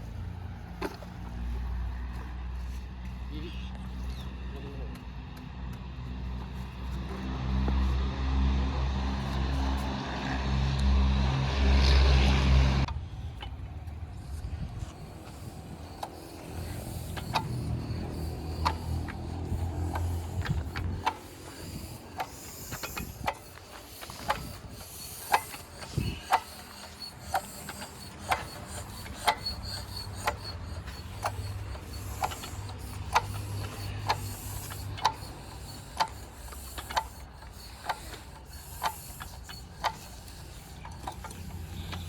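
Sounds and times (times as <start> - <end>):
stationary engine running: 5.9 - 42.0.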